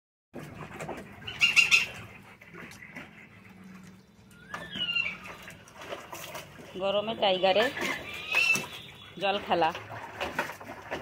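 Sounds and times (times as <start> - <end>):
birds calling: 0.7 - 10.0.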